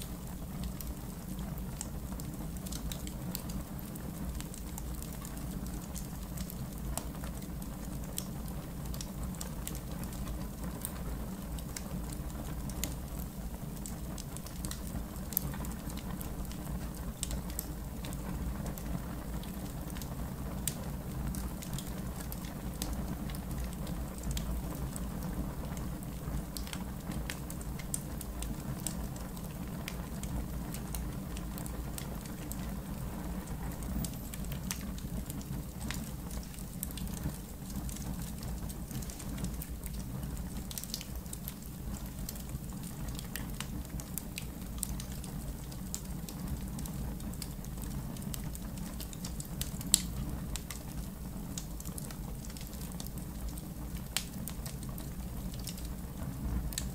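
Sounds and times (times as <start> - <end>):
campfire crackling and popping: 0.0 - 56.9.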